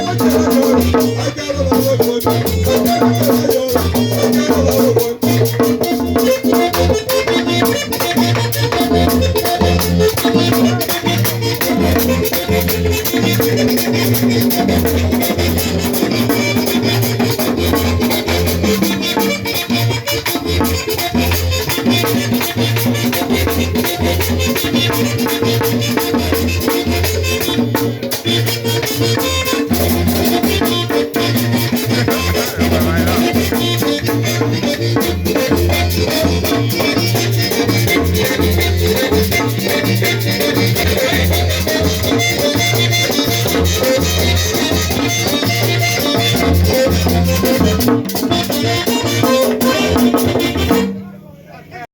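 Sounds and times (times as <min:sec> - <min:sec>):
drum and bass beat: 0:00.0 - 0:50.8
accordion melody: 0:00.0 - 0:51.0.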